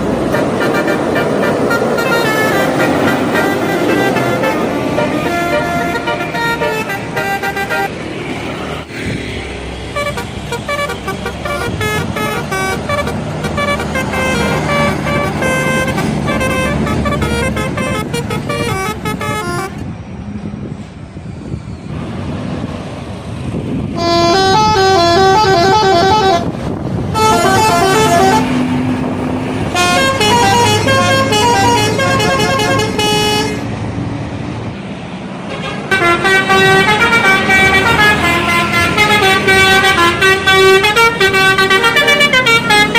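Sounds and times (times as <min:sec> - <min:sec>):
bus horns playing melodies: 0:00.0 - 0:08.0, 0:09.9 - 0:19.8, 0:23.9 - 0:33.8, 0:35.4 - 0:42.9
bus engines rumbling: 0:00.0 - 0:42.9.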